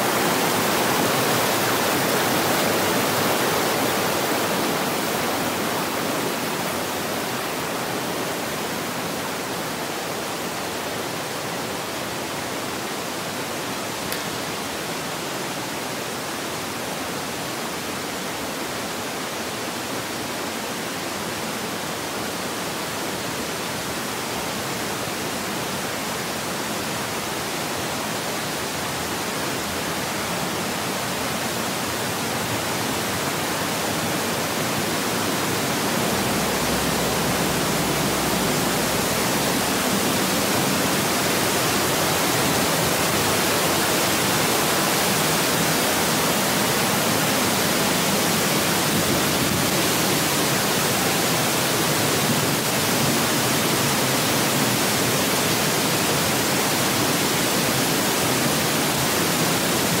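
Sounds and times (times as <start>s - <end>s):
waterfall and river rushing: 0.0s - 60.0s.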